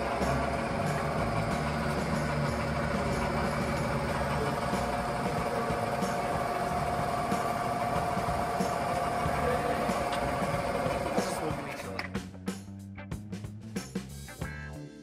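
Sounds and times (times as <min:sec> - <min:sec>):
mechanical hum with whine: 0:00.0 - 0:12.1.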